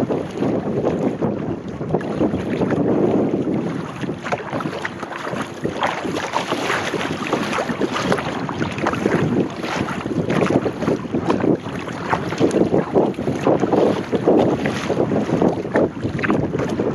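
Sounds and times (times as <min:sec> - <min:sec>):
water splashing around hull: 0:00.0 - 0:16.9
wind on microphone: 0:00.0 - 0:16.9.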